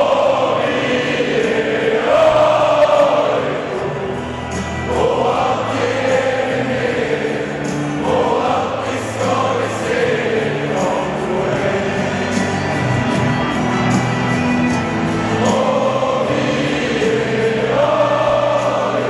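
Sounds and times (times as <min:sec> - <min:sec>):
crowd singing a chant: 0:00.0 - 0:19.0.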